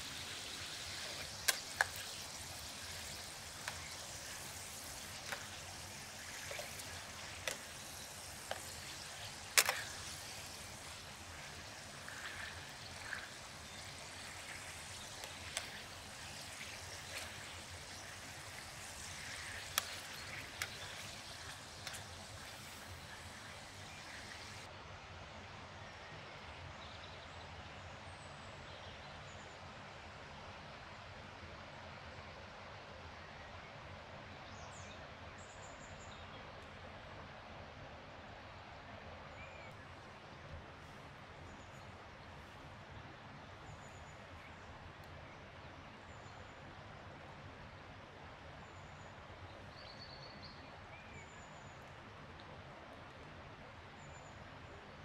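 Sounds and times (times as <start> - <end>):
forest background hiss: 0.0 - 24.8, 25.4 - 55.0.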